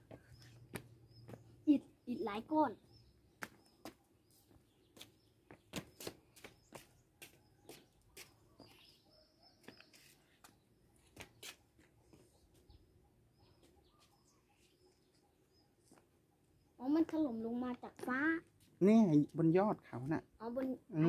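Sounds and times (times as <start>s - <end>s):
faint high bird chirps: 0.0s - 17.8s.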